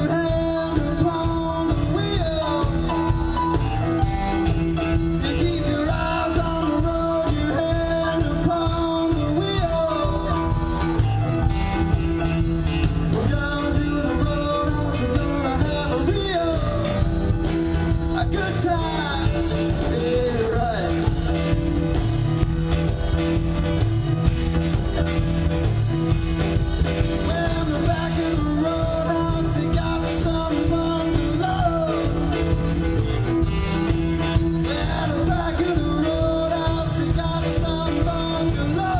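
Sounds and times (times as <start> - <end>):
person singing lead vocal: 0.0 - 12.0, 12.7 - 21.9, 26.8 - 38.9
live rock band playing: 0.0 - 38.9.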